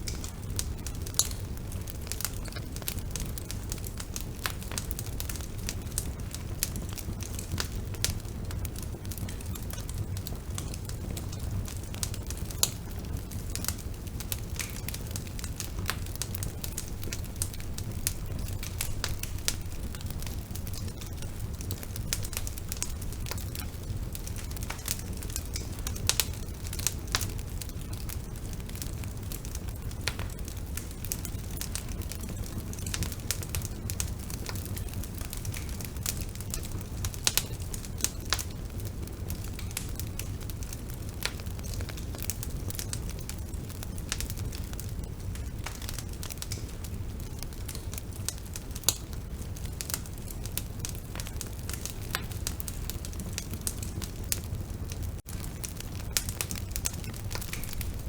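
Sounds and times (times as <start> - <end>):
burning wood crackling: 0.0 - 58.0
fire popping: 0.0 - 58.0
low rumble of flames: 0.0 - 58.0.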